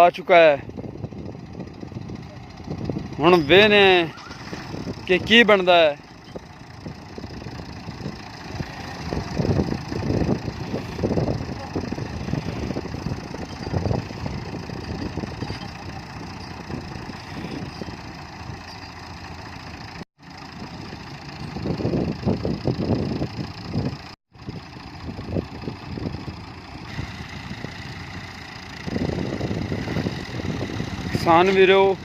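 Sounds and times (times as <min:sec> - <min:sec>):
diesel tractor engines under load: 0:00.0 - 0:32.0.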